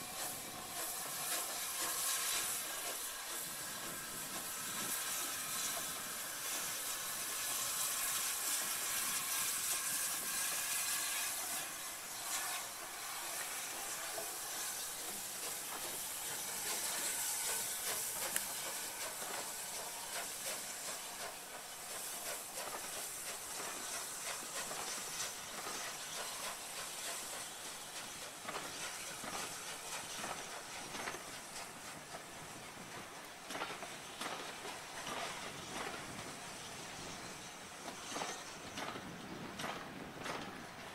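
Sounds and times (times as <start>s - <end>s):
hiss of escaping steam: 0.0s - 39.1s.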